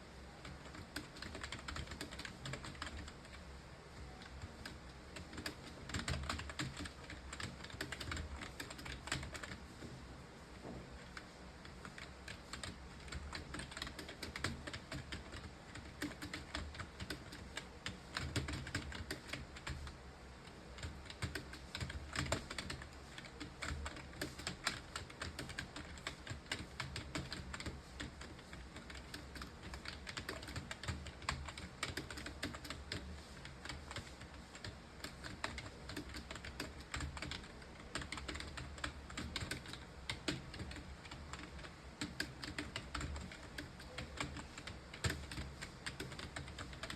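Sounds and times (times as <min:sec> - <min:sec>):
fast typing on keyboard: 0:00.3 - 0:09.6, 0:11.0 - 0:46.9.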